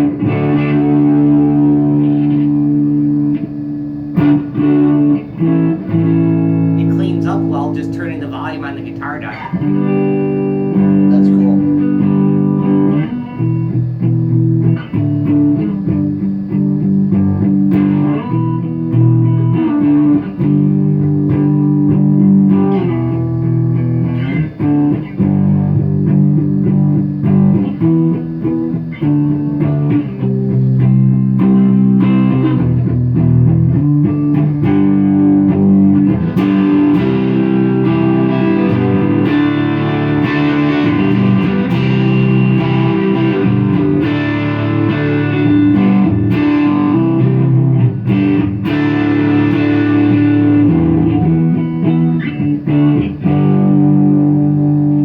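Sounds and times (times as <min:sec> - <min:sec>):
clean electric guitar: 0:00.0 - 0:55.0.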